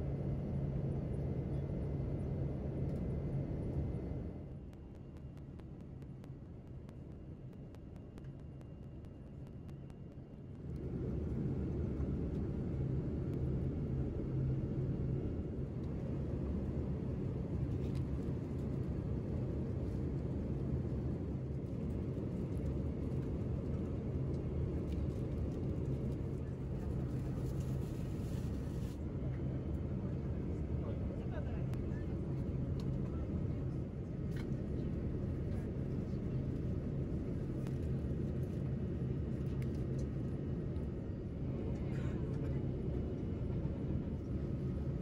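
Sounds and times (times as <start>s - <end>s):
airplane cabin noise: 0.0s - 45.0s.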